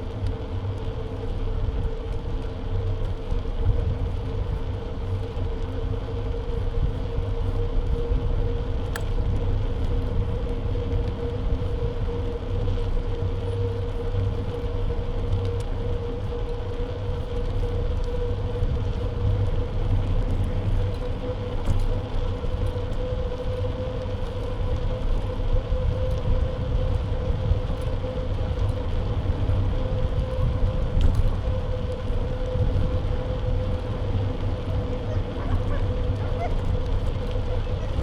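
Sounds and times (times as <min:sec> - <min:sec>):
constant mid-pitched hum: 0:00.0 - 0:38.0
wind and road noise rumble: 0:00.0 - 0:38.0.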